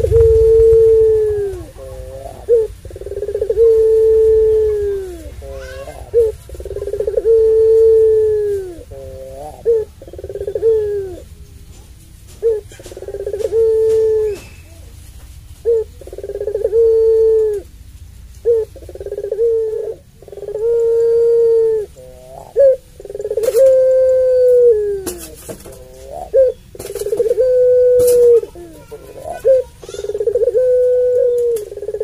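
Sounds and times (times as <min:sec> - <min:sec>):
dove cooing long call: 0:00.0 - 0:11.6, 0:12.4 - 0:32.0.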